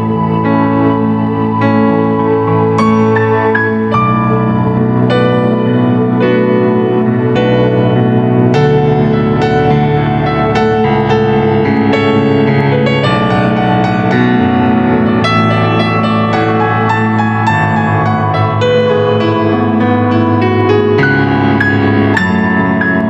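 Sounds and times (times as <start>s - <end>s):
keyboard piano chords and melody: 0.0s - 23.0s.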